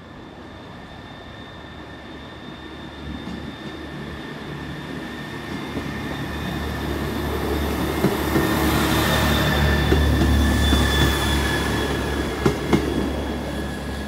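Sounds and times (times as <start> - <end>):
diesel train approaching: 0.0 - 14.0.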